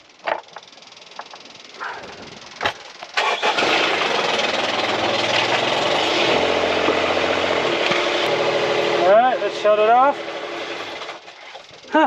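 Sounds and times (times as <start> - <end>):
boat engine starting and running: 0.2 - 12.0.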